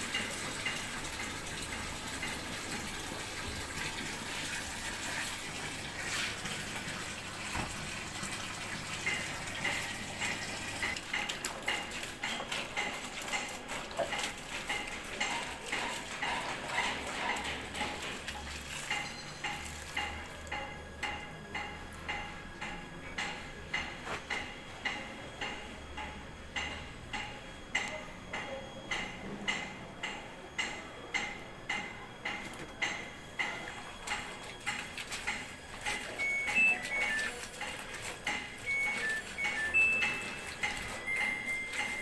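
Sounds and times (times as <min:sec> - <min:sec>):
washing machine clicking: 0:00.0 - 0:42.0.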